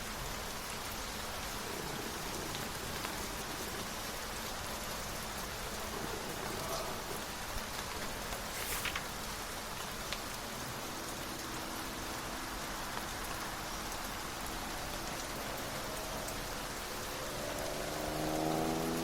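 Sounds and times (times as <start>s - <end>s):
steady rain pattering: 0.0s - 19.0s.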